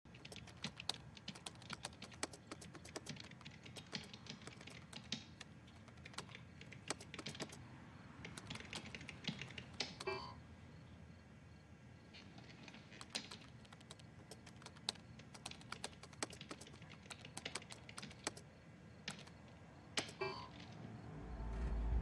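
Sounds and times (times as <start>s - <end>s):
fast keyboard typing: 0.1s - 7.6s, 8.2s - 10.3s, 12.5s - 20.6s.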